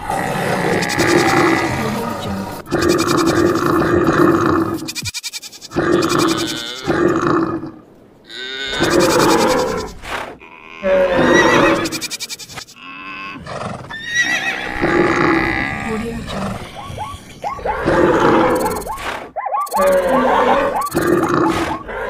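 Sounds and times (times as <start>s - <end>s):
animal calls: 0.0s - 7.6s, 8.3s - 22.0s.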